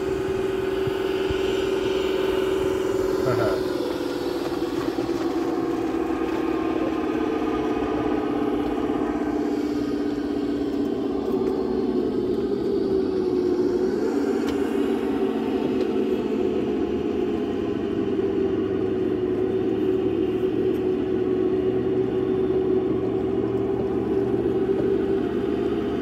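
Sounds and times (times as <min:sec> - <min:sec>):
golf cart motor hum: 0:00.0 - 0:26.0.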